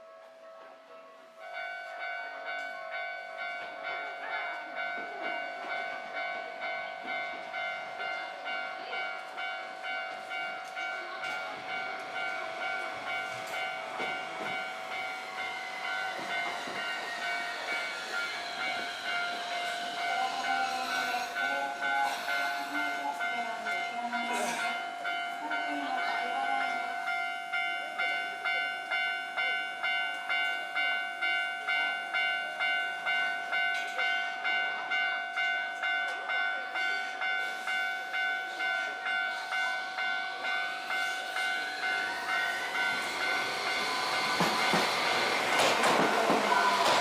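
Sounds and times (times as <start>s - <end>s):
level crossing warning bell: 0.0s - 47.0s.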